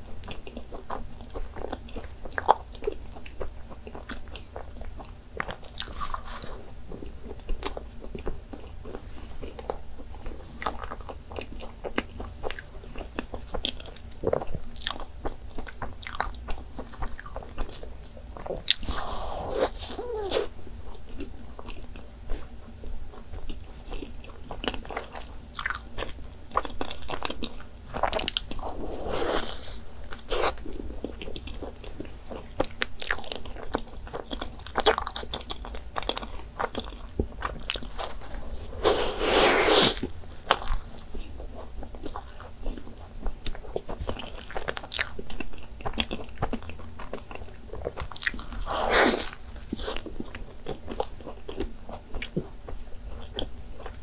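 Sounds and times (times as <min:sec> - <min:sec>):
person chewing pastries: 0:00.0 - 0:54.0.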